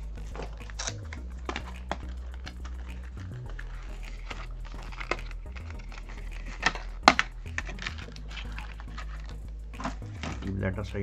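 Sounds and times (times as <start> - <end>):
plastic packaging crackling: 0.0 - 10.6
background music: 0.0 - 11.0.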